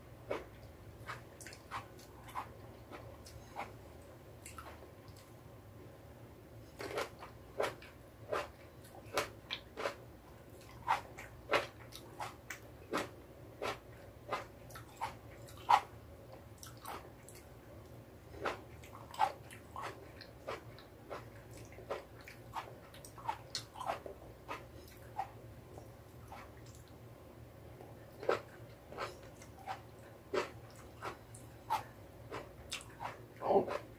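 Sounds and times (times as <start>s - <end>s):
faint low hum: 0.0s - 33.9s
chewing cherry tomatoes: 0.2s - 5.4s, 6.7s - 27.0s, 27.8s - 33.9s.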